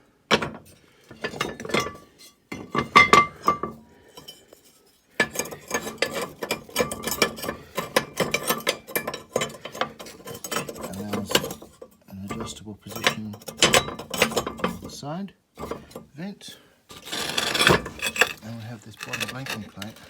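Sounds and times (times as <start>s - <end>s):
cast iron parts clanking: 0.3s - 4.6s, 5.2s - 15.0s, 15.6s - 16.1s, 16.9s - 20.0s.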